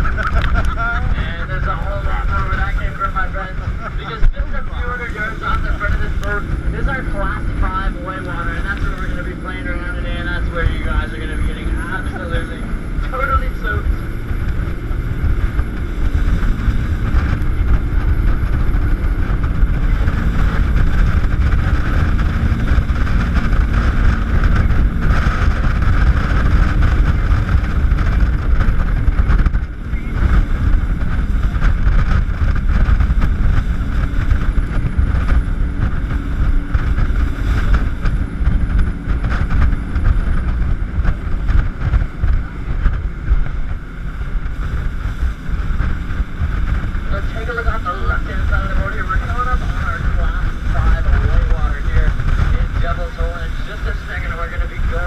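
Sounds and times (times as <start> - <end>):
jet boat engine drone: 0.0 - 55.0
water rushing: 0.0 - 55.0
wind buffeting on microphone: 0.0 - 55.0.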